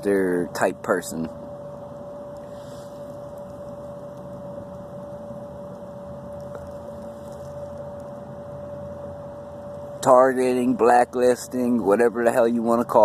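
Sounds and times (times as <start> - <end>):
background hum and hiss: 0.0 - 13.0
constant tone: 0.0 - 13.0.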